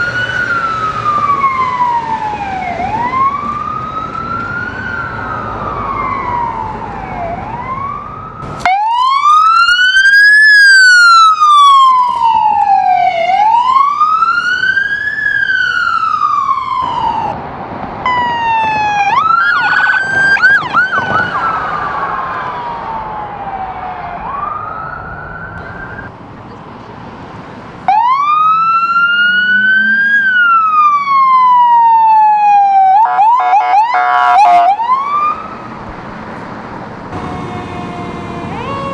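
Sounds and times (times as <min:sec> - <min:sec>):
siren wailing: 0:00.0 - 0:17.4, 0:18.1 - 0:26.1, 0:27.9 - 0:35.8, 0:37.1 - 0:38.9
siren yelp: 0:00.0 - 0:17.4, 0:18.1 - 0:26.1, 0:27.9 - 0:35.8, 0:37.1 - 0:38.9.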